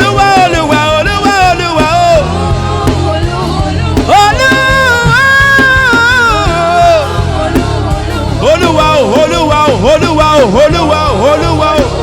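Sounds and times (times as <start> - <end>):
band with bass and drums: 0.0 - 12.0.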